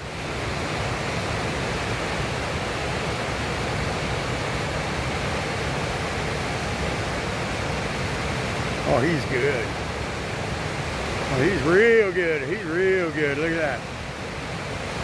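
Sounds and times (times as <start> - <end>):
river whitewater rushing: 0.0 - 15.0.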